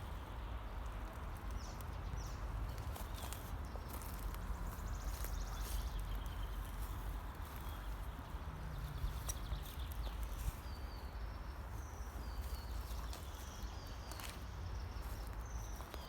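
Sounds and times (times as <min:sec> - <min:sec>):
birds chirping: 0:00.0 - 0:16.0
footsteps on dry leaves: 0:01.0 - 0:16.0.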